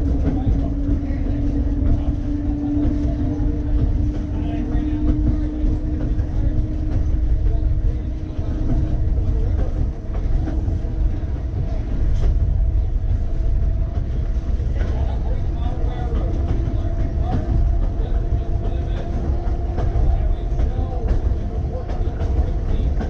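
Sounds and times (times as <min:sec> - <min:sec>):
steady whine: 0:00.0 - 0:23.0
wheels rumbling on rail: 0:00.0 - 0:23.0.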